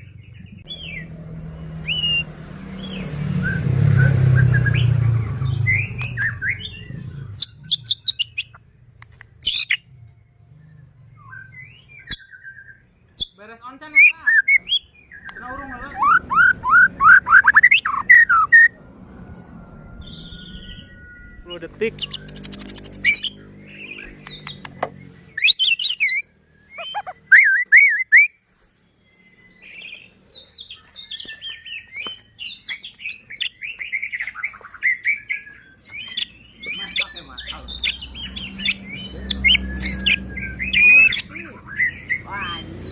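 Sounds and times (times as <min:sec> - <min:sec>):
bird singing whistled notes: 0:00.0 - 0:42.9.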